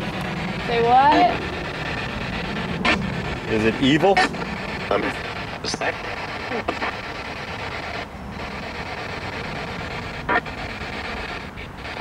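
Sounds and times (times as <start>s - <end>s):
choppy radio static hiss: 0.0s - 12.0s.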